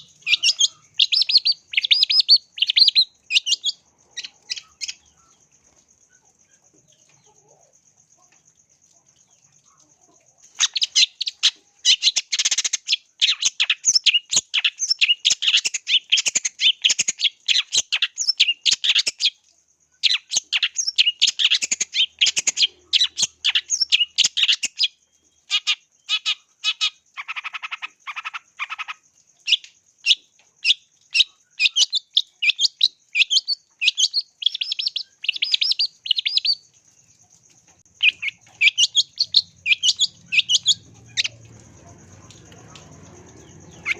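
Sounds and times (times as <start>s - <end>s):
bird chattering song: 0.0s - 8.3s, 9.3s - 19.4s, 20.0s - 43.9s.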